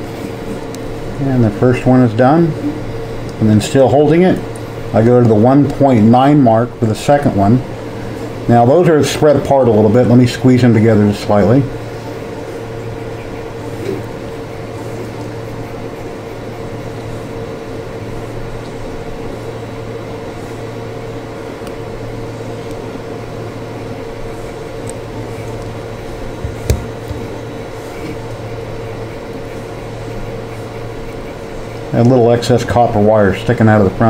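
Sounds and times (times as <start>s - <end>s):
steady electrical hum: 0.0s - 34.0s.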